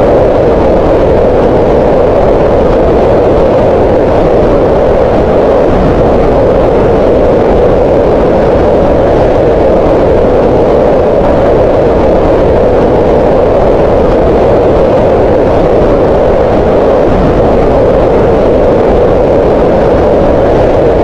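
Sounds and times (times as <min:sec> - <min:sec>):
green noise rushing: 0:00.0 - 0:21.0.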